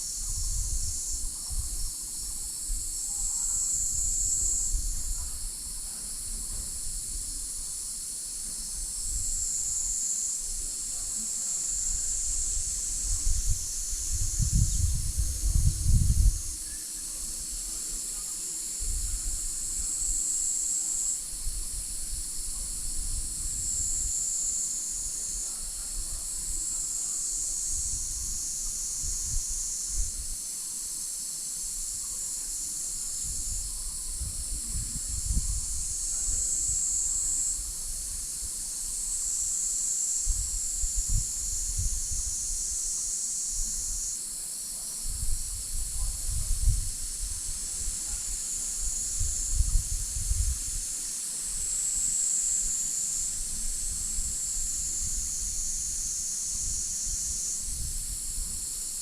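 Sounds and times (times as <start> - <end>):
insect chorus buzzing: 0.0 - 59.0.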